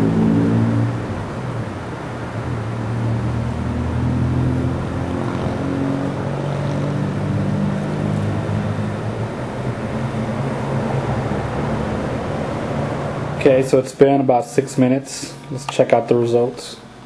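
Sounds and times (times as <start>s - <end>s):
engine running steadily: 0.0s - 13.8s.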